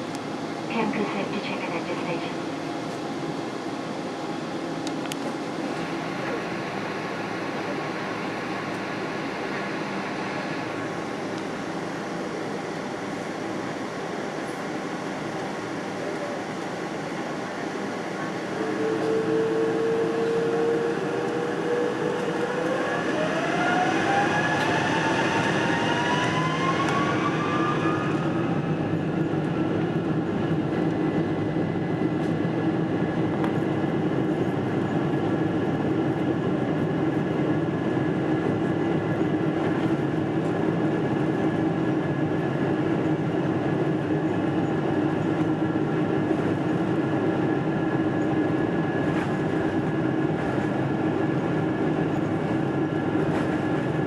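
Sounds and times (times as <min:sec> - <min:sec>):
airplane cabin rumble: 0:00.0 - 0:54.0
jet engine whine: 0:00.0 - 0:54.0.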